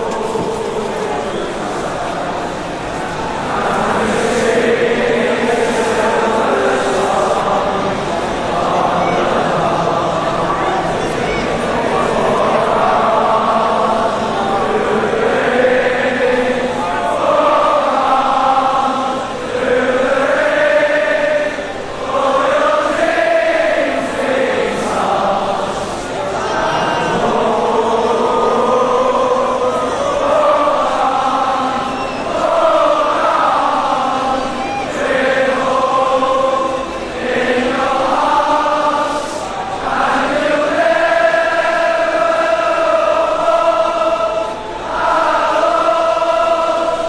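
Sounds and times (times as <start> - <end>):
choir singing held notes: 0.0 - 47.0
many voices chanting in unison: 0.0 - 47.0.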